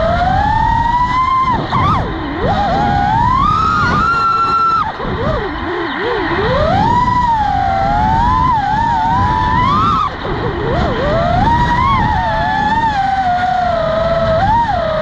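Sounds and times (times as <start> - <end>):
quadcopter motors whining: 0.0 - 15.0
wind rumble on microphone: 0.0 - 15.0.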